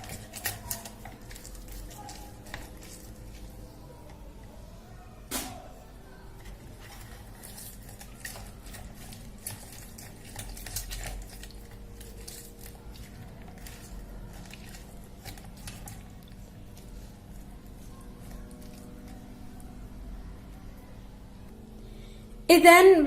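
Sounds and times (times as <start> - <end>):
lemon squelching on juicer: 0.0 - 4.6, 6.2 - 20.2
faint steady hum: 0.0 - 23.0.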